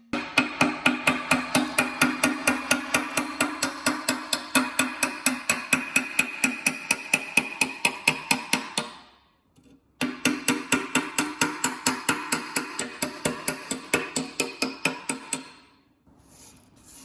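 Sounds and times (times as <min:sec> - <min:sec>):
hammer striking metal: 0:00.1 - 0:09.0, 0:10.0 - 0:15.7.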